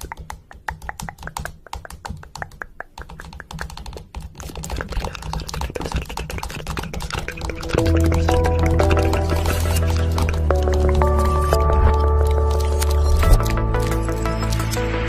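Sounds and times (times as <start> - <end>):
rapid clicking and tapping: 0.0 - 15.0.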